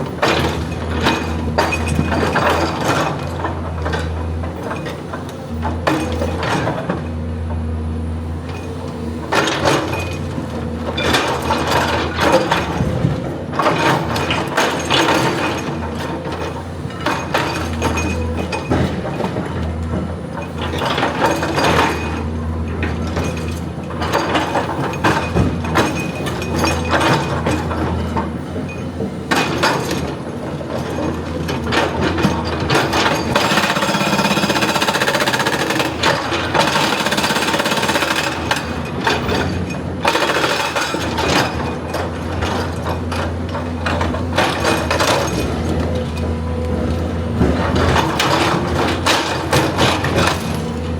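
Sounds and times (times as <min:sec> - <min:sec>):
excavator diesel engine: 0:00.0 - 0:50.9.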